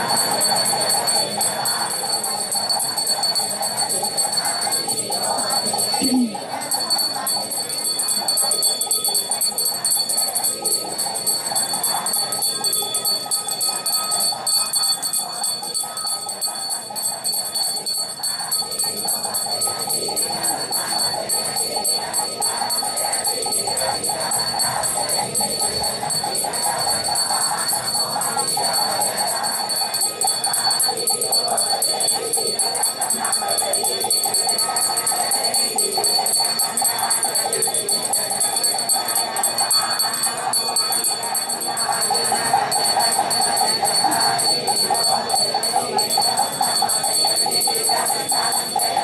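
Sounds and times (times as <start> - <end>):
congregation chanting: 0.0 - 49.0
high jingling ring: 0.0 - 49.0.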